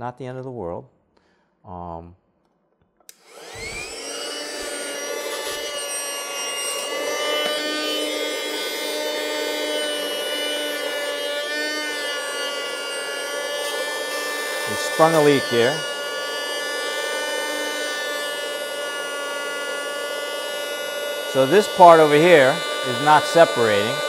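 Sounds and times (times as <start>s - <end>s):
electric air pump whining: 3.1s - 24.0s.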